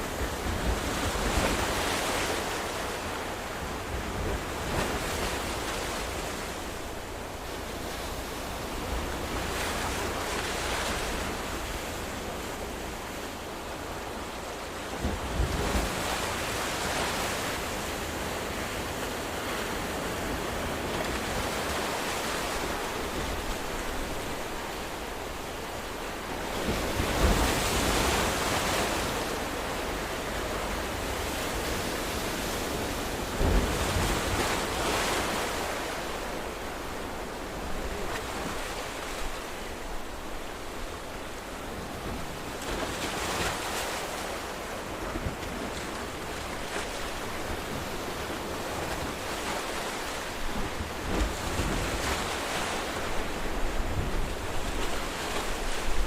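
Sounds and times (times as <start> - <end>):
ocean waves breaking: 0.0 - 56.0
surf hiss: 0.0 - 56.0.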